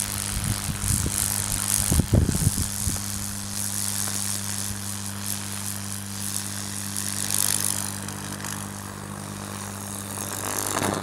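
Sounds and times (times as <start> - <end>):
electric arc crackling through wood: 0.0 - 11.0
transformer humming: 0.0 - 11.0.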